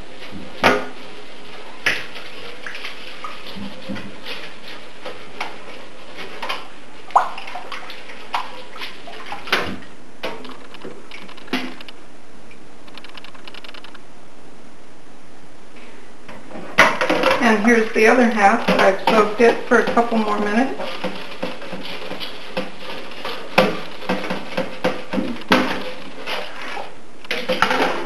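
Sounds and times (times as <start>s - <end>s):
water sloshing in a sink: 0.0s - 11.8s, 16.3s - 28.0s.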